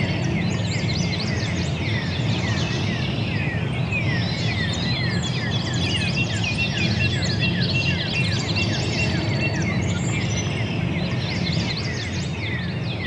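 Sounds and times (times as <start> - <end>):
songbirds chorus: 0.0 - 13.0
steady low rumble: 0.0 - 13.0.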